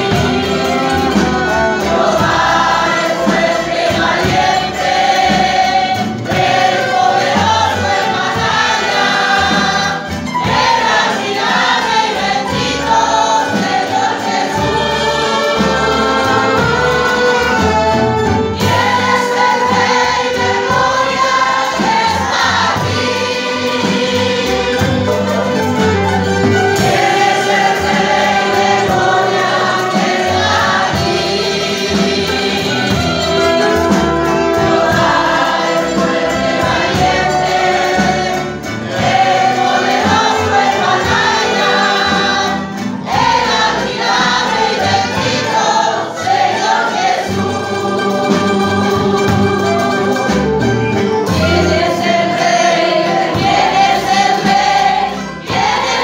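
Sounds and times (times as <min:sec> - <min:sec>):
mandolins and guitars strumming: 0:00.0 - 0:56.0
people singing a hymn: 0:00.0 - 0:56.0.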